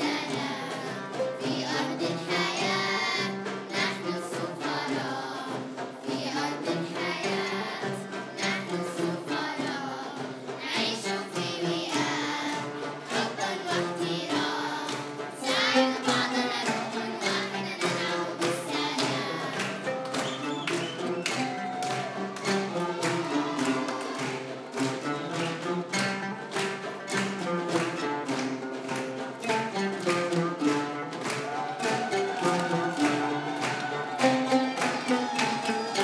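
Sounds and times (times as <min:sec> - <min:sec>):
children singing: 0:00.0 - 0:36.0
hand drums beating quick rhythm: 0:00.0 - 0:36.0
plucked ouds: 0:00.0 - 0:36.0.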